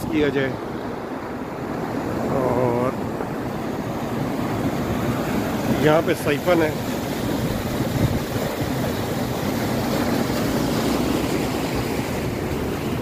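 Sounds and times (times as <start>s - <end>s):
river rushing in flood: 0.0s - 13.0s.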